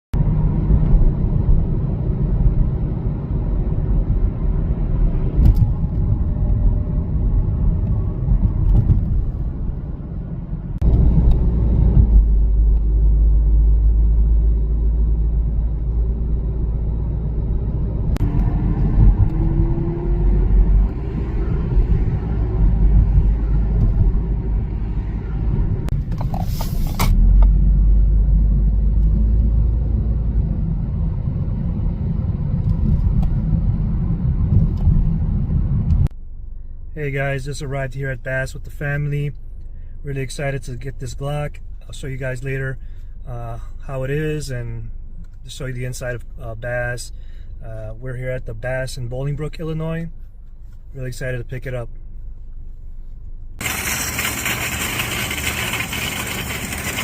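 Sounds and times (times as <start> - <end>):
car road and engine rumble: 0.1 - 57.0.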